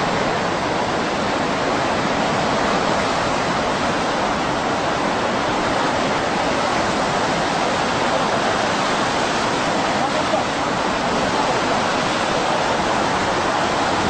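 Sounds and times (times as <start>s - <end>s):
heavy surf breaking: 0.0s - 14.0s.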